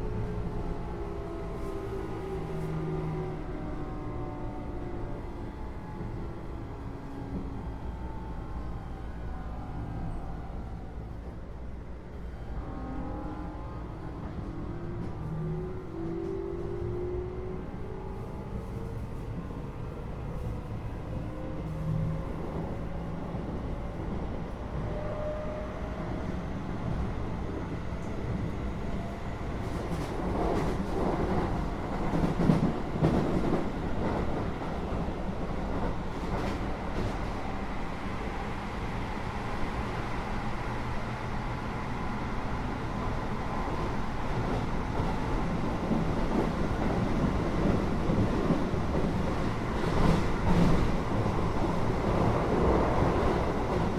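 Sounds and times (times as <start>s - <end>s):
train rolling rumble: 0.0s - 53.9s.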